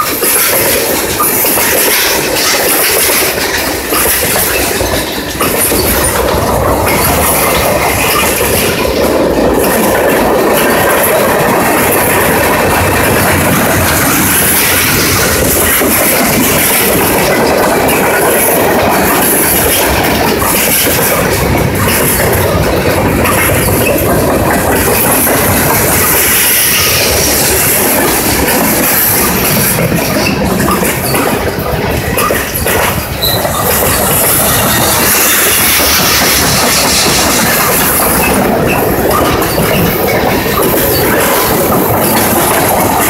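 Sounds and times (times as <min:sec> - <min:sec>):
clickety-clack over rail joints: 0:00.0 - 0:43.0
freight train wheels rumbling: 0:00.0 - 0:43.0.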